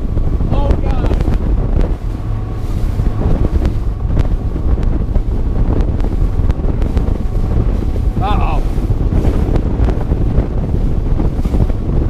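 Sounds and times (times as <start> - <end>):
boat engine: 0.0 - 12.0
water rushing: 0.0 - 12.0
wind buffeting microphone: 0.0 - 12.0.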